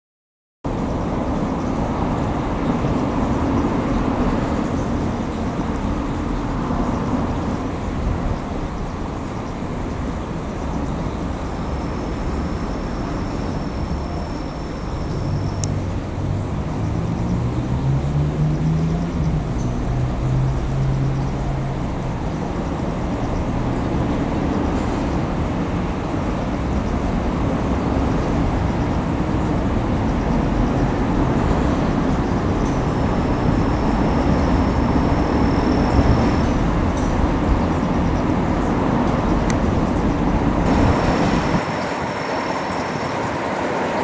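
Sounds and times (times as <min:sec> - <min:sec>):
railway vehicle rumbling: 0:00.6 - 0:44.0
low engine tone: 0:00.7 - 0:44.0.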